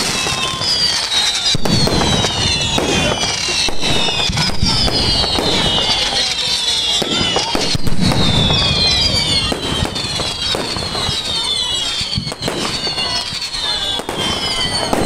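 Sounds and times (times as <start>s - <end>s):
fireworks banging and crackling: 0.0s - 15.0s
high whistles gliding down: 0.0s - 15.0s.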